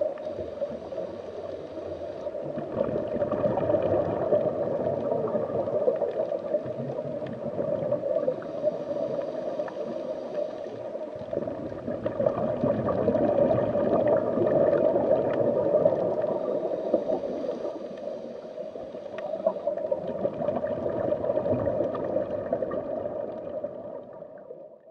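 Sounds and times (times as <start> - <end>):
underwater gurgling water: 0.0 - 24.9.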